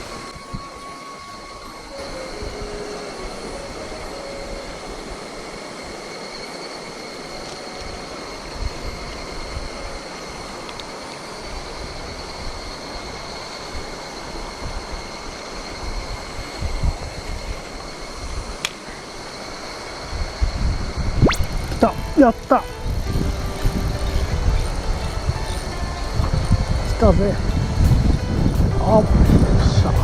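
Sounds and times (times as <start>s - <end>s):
high-pitched whine: 0.0s - 30.0s.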